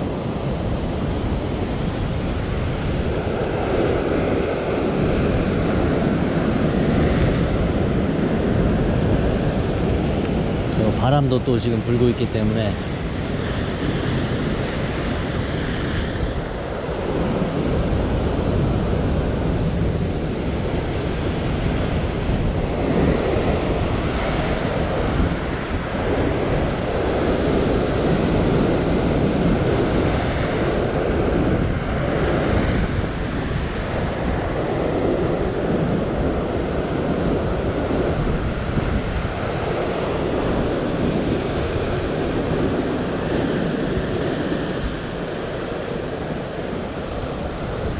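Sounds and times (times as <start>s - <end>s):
sea surf breaking on rocks: 0.0s - 47.9s
wind buffeting microphone: 0.0s - 47.9s.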